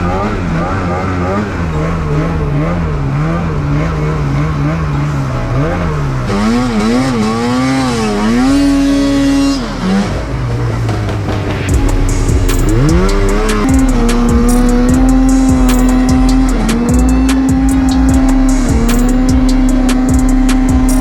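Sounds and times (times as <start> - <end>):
snowmobile engine revving: 0.0 - 21.0.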